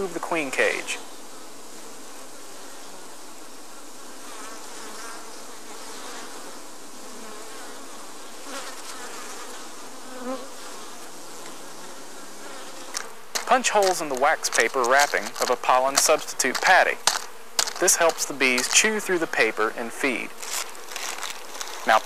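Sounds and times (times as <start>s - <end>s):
honey bees buzzing: 0.0s - 22.0s.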